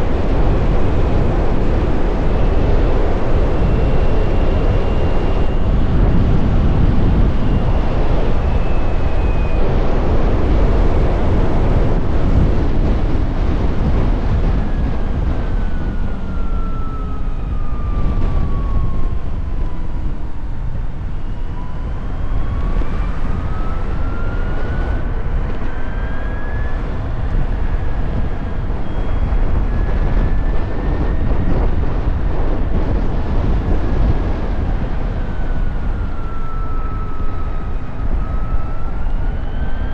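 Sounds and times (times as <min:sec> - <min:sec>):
wind and road rush: 0:00.0 - 0:39.9.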